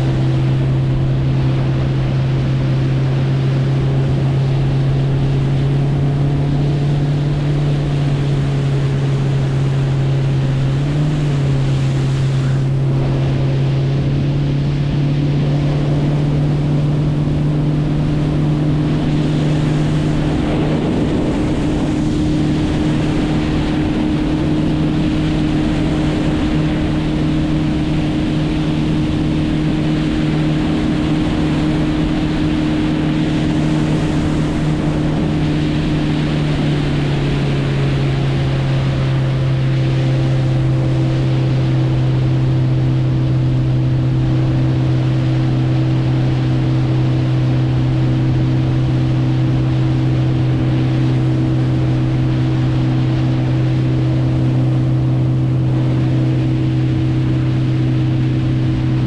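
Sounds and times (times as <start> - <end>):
boat motor running: 0.0 - 59.0
water noise: 0.0 - 59.0
wind noise: 0.0 - 59.0.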